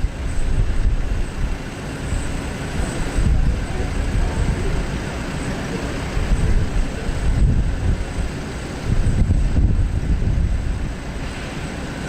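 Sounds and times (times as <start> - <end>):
engine rumble: 0.0 - 12.0
faint high whine: 0.0 - 12.0
wind buffeting microphone: 0.0 - 12.0.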